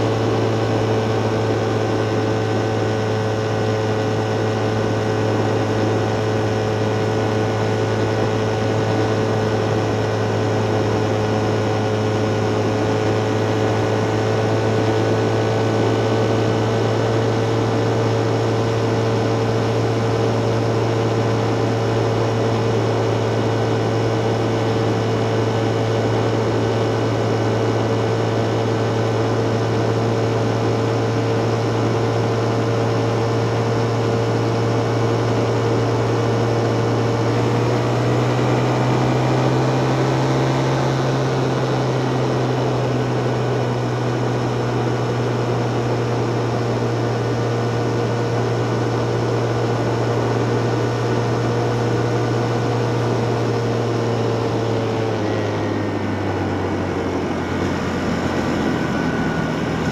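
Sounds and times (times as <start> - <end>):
low hum and road noise: 0.0 - 59.9
vehicle running gear whine: 0.0 - 59.9.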